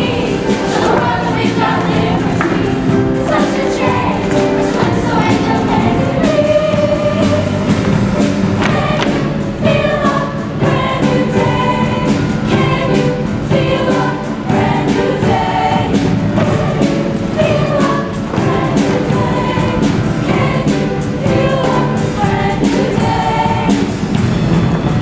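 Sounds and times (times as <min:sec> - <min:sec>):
choir singing: 0:00.0 - 0:25.0
musical accompaniment: 0:00.0 - 0:25.0.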